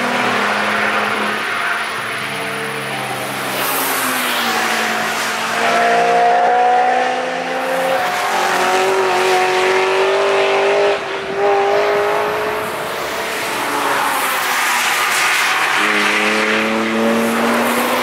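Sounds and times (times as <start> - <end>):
racing car engines at high revs: 0.0 - 18.0.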